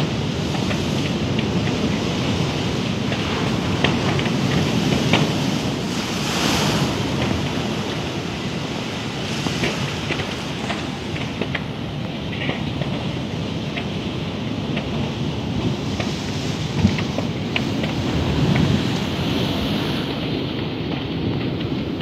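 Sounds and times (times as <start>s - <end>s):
sea water washing: 0.0s - 22.0s
wind on microphone: 0.0s - 22.0s.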